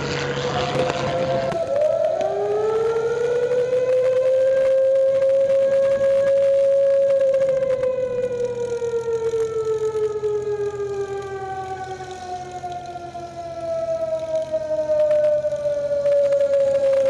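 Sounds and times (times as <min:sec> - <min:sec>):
air-raid siren wailing: 0:00.0 - 0:17.0
higher siren tone: 0:00.0 - 0:17.0.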